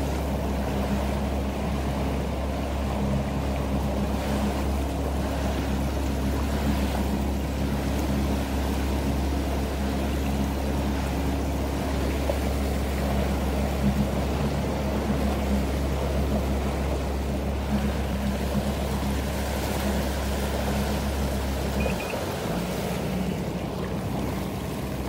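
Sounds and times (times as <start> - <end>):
jet ski engine droning: 0.0 - 25.0.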